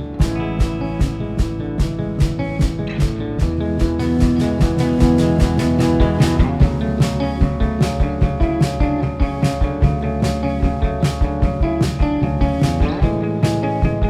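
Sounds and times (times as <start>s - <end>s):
guitar chords: 0.0s - 14.0s
steady drum beat: 0.0s - 14.0s.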